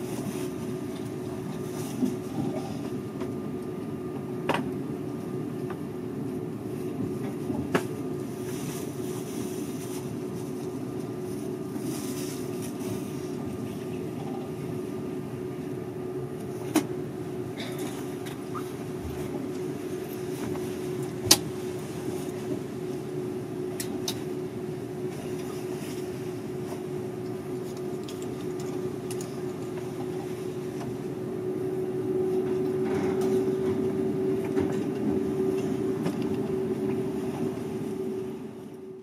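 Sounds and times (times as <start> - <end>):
constant hum: 0.0 - 39.0
train running noise: 0.0 - 39.0.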